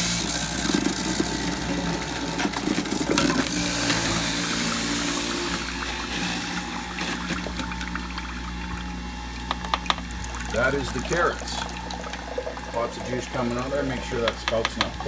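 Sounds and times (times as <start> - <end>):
juicer grinding carrots: 0.0 - 15.0
juicer motor hum: 0.0 - 15.0.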